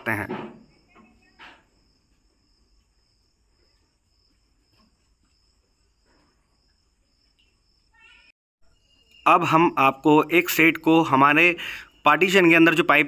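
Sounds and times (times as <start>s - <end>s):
insect chirring: 0.6s - 13.0s.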